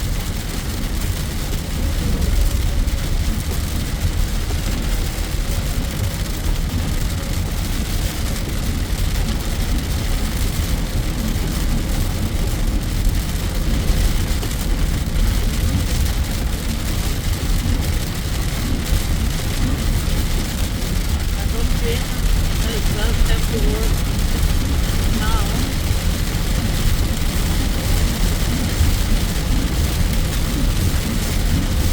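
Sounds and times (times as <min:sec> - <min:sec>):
heavy rain on car: 0:00.0 - 0:31.9
road and engine rumble: 0:00.0 - 0:31.9.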